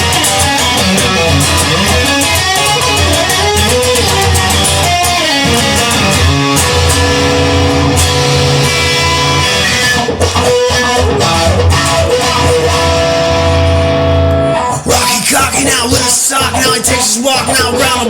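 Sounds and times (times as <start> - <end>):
bass line: 0.0 - 18.0
electric guitar chords: 0.0 - 18.0.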